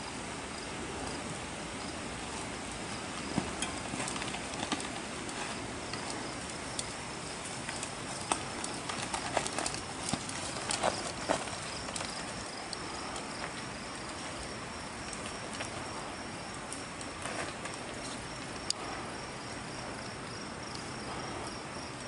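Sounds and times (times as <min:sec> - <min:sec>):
bike tyres crunching over stones: 0:01.8 - 0:21.4.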